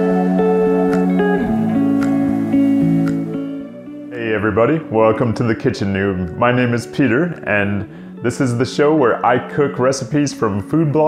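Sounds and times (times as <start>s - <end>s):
instrumental intro music: 0.0s - 11.0s.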